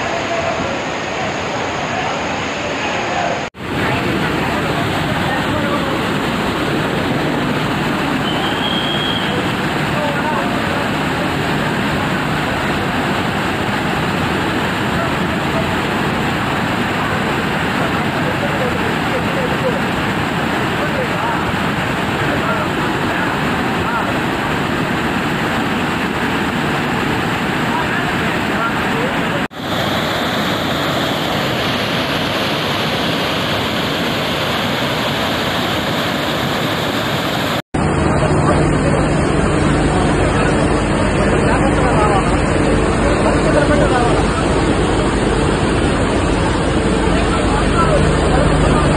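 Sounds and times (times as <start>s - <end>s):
floodwater rushing: 0.0s - 48.9s.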